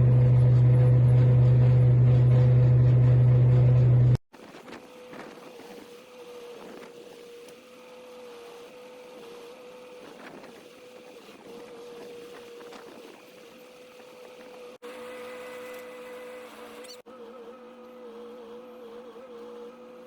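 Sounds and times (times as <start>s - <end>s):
machine whine: 0.0s - 17.0s.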